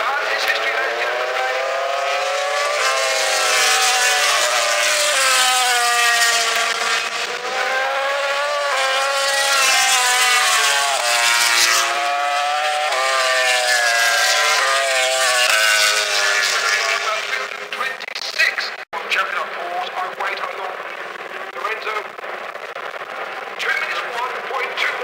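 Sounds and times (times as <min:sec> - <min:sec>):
racing motorcycle engines revving: 0:00.0 - 0:25.0.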